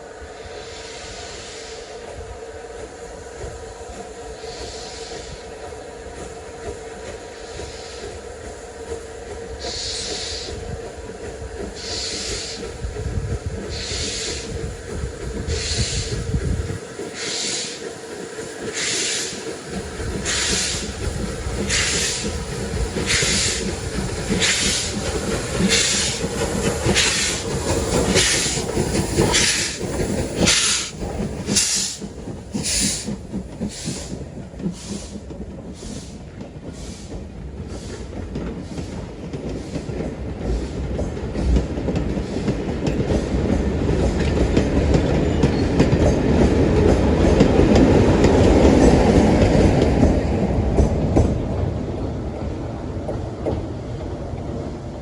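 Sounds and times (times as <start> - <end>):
steam locomotive hissing beat: 0.1 - 50.2
locomotive low rumble: 2.0 - 55.0
wheels clacking on rails: 2.0 - 55.0.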